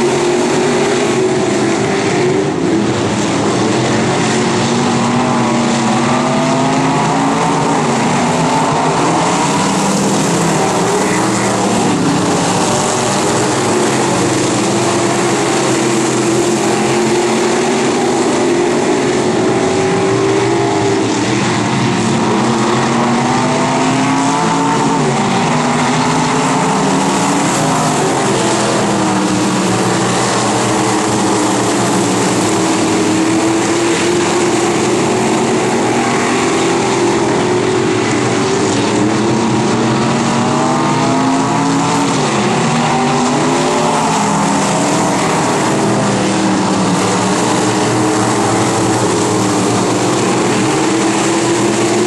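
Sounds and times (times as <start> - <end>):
race car engines passing: 0.0 - 52.0.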